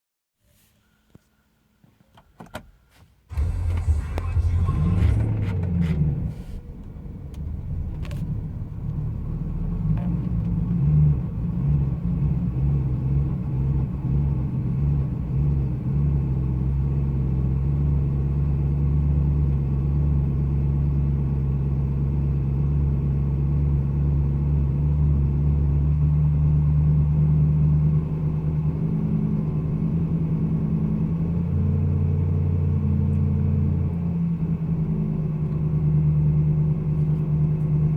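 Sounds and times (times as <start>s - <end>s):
car engine idling rough: 3.3s - 37.9s.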